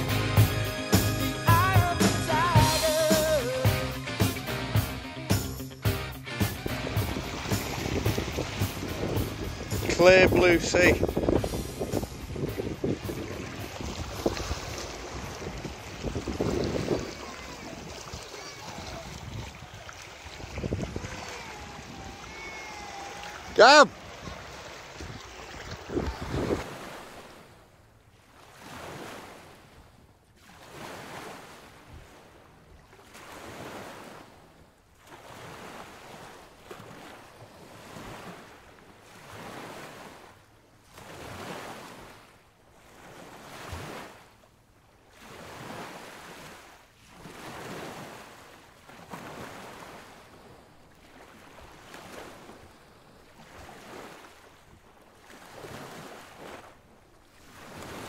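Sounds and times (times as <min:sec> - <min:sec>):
waves washing onto shore: 0:06.4 - 0:58.0.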